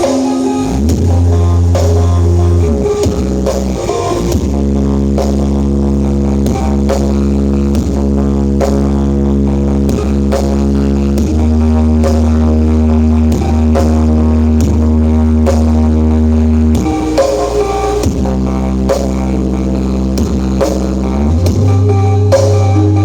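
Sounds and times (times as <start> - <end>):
loud music with deep bass: 0.0 - 23.0.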